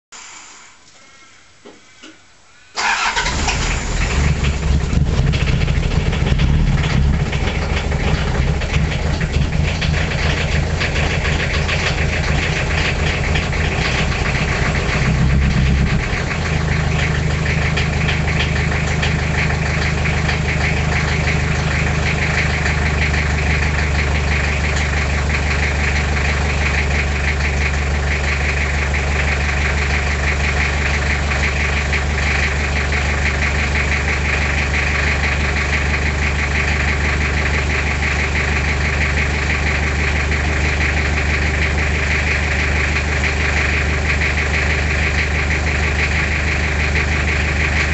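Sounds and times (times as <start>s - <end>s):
diesel engine idling with knock: 3.0s - 47.9s.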